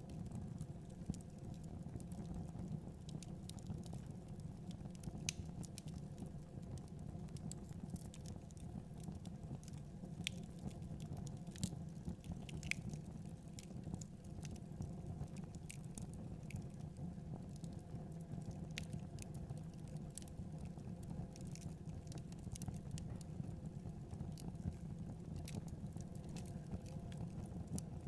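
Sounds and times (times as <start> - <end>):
fire crackling and popping: 0.0 - 28.0
low rumble of flames: 0.0 - 28.0.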